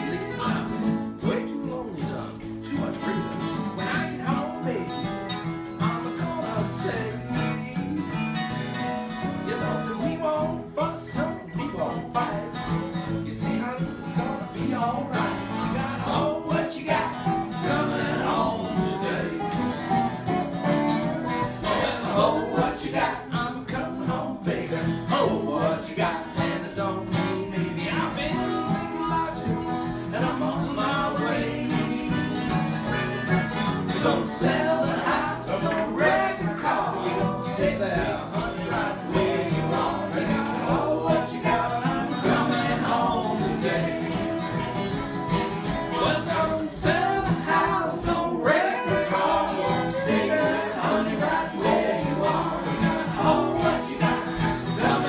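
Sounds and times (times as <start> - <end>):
man singing: 0.0 - 20.4, 21.0 - 55.0
acoustic guitars strumming: 0.0 - 55.0.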